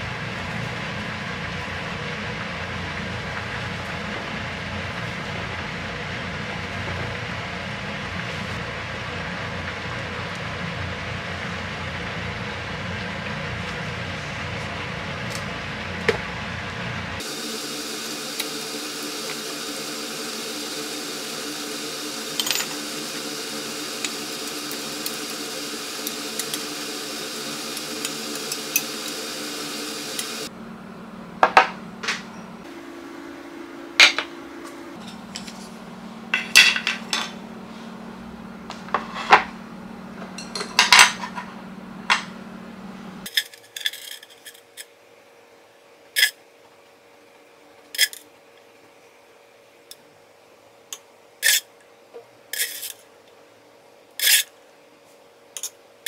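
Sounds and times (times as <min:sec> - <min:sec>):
kitchen hum: 0:00.0 - 0:44.9.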